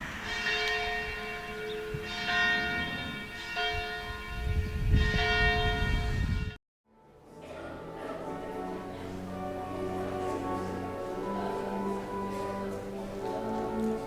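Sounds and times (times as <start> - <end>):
church bell tolling: 0.2 - 6.6, 7.4 - 14.0.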